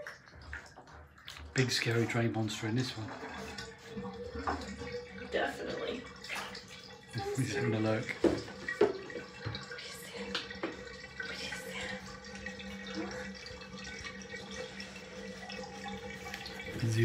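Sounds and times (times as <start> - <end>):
water draining from bathtub: 0.0 - 17.0
water drips: 0.0 - 17.0.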